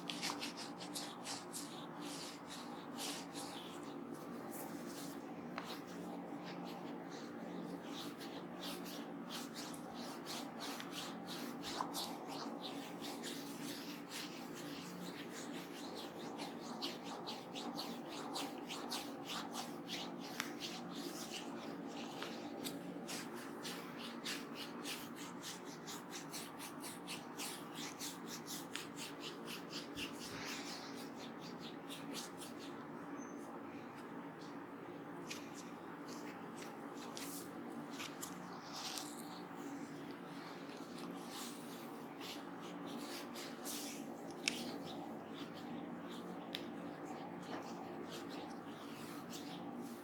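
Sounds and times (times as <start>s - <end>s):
hands rubbing oiled hair: 0.0s - 50.0s.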